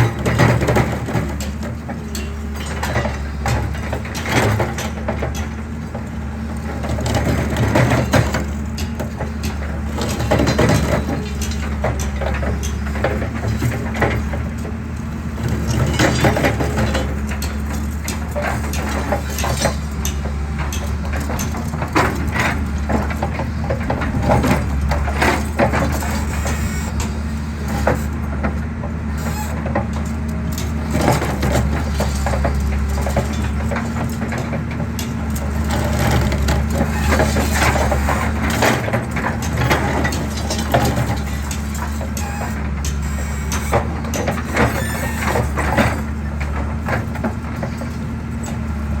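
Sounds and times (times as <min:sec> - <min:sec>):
excavator engine under load: 0:00.0 - 0:49.0.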